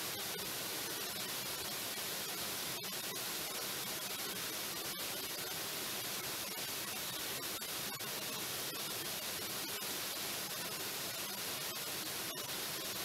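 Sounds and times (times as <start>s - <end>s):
waterfall pouring over rocks: 0.0s - 13.0s.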